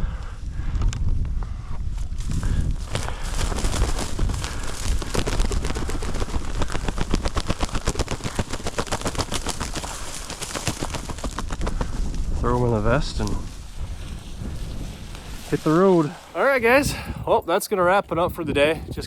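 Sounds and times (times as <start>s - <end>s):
footsteps crackling through dry cover: 0.6s - 16.8s.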